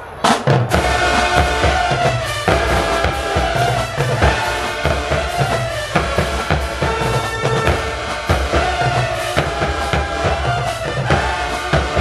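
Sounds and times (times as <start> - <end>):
drumline beat: 0.2 - 12.0
marching band brass playing: 0.2 - 12.0.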